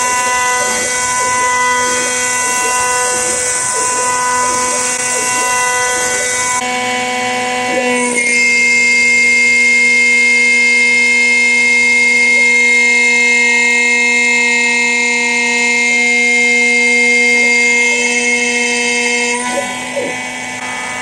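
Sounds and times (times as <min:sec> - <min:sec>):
motor whining: 0:00.0 - 0:21.0.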